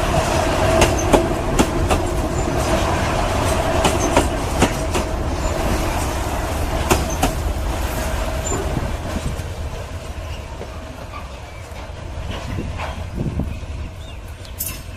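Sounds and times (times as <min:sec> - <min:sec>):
train rumble: 0:00.0 - 0:14.9
train wheels clicking over rail joints: 0:00.0 - 0:14.9.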